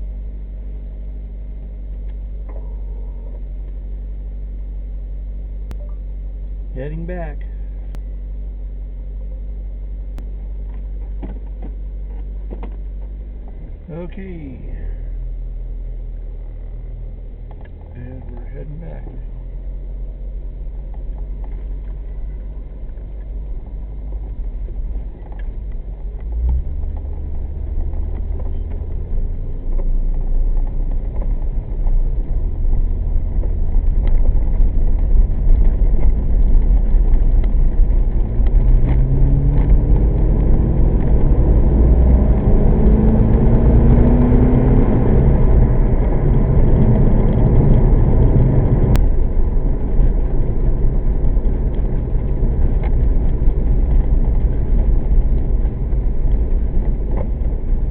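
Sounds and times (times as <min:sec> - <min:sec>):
car engine accelerating: 0:00.0 - 0:57.9
road rumble: 0:00.0 - 0:57.9.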